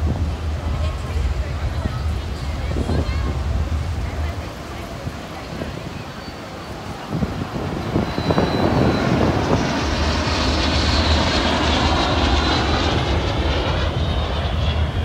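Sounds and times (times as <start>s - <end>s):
high turbine whine: 0.0s - 15.0s
jets flying past: 0.0s - 15.0s.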